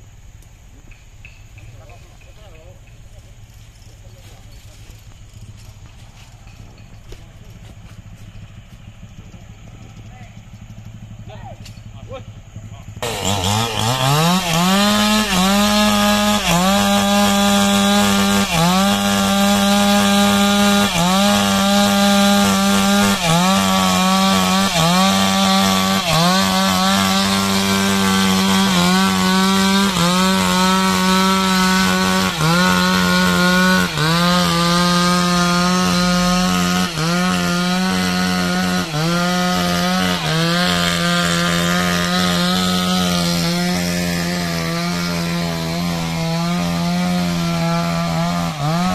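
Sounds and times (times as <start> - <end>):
chainsaw cutting wood: 4.5 - 48.9.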